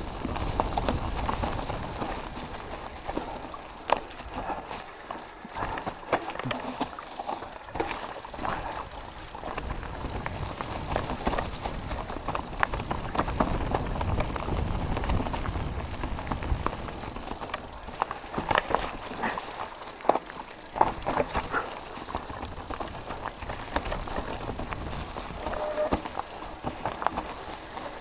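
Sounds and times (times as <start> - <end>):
wind rumble on microphone: 0.0 - 4.9, 7.8 - 19.4, 20.7 - 28.0
bike knocking and rattling: 0.0 - 28.0
tyres crunching over stones: 0.0 - 28.0.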